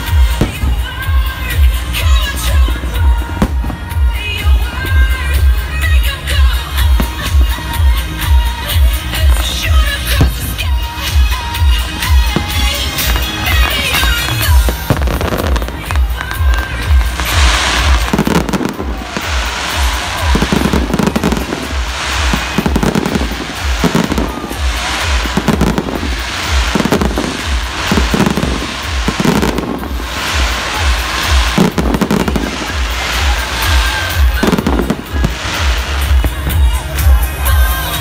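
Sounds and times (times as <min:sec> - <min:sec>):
fireworks booming and crackling: 0:00.0 - 0:38.0.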